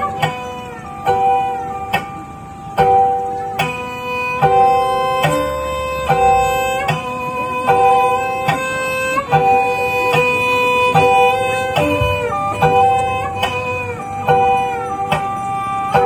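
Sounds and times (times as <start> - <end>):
plucked string instrument: 0.0 - 16.0.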